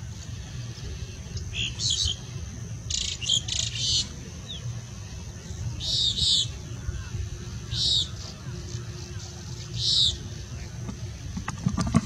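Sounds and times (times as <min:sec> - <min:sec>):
small birds chirping: 0:00.0 - 0:11.3
low steady rumble: 0:00.0 - 0:12.0.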